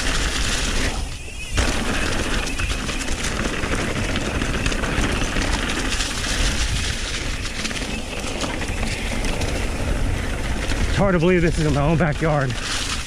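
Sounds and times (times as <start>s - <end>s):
bike rattling: 0.0s - 13.0s
tyres on dirt: 0.0s - 13.0s
wind rushing on microphone: 0.0s - 13.0s.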